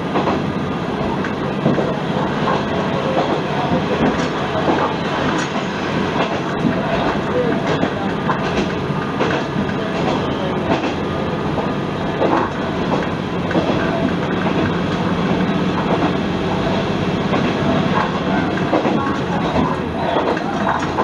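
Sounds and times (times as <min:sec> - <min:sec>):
diesel railcar engine running: 0:00.0 - 0:21.0.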